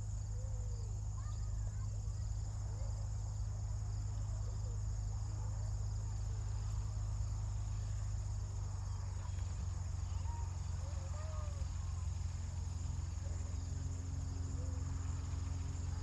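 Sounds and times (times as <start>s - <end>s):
insects chirring: 0.0s - 16.0s
low hum: 0.0s - 16.0s.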